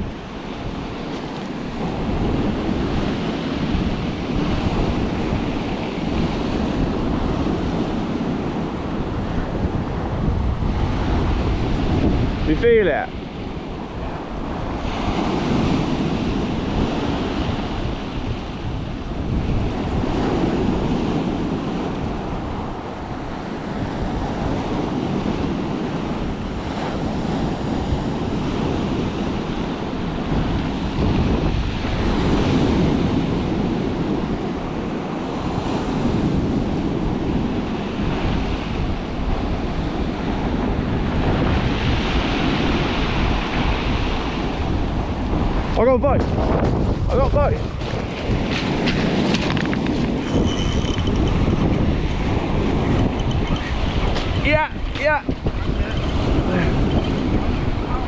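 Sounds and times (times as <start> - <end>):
sea surf washing on shore: 0.0 - 58.0
wind buffeting microphone: 0.0 - 58.0.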